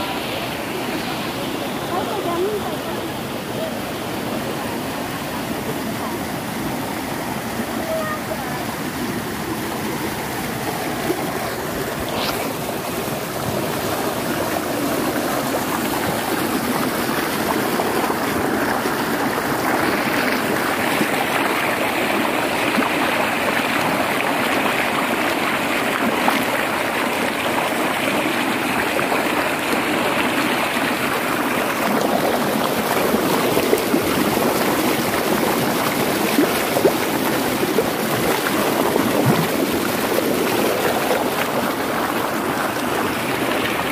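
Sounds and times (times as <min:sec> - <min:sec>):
stream rushing over boulders: 0:00.0 - 0:43.9.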